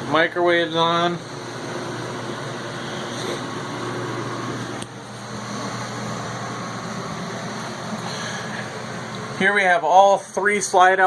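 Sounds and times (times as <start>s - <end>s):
air conditioner whirring: 0.0s - 11.0s
microwave oven humming: 0.0s - 11.0s.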